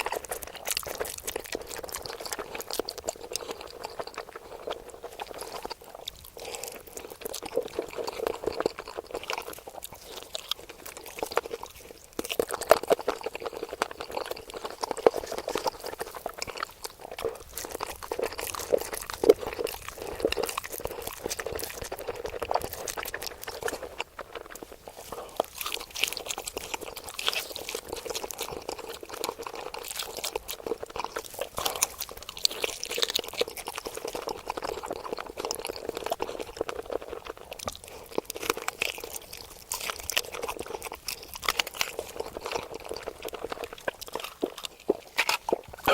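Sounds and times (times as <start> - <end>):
wet chewing and crunching: 0.0 - 45.9.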